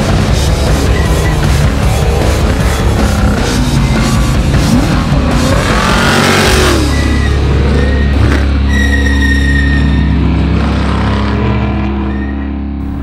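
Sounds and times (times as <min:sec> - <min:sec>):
loud music with bass: 0:00.0 - 0:13.0
truck engine revving past: 0:00.0 - 0:13.0.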